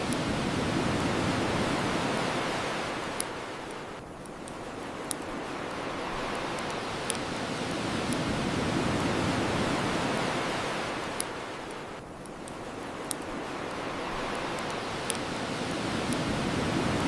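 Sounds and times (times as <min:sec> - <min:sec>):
ocean wave washing up shore: 0:00.0 - 0:04.0, 0:04.6 - 0:12.0, 0:12.6 - 0:17.0
bonfire crackling pops: 0:00.0 - 0:17.0.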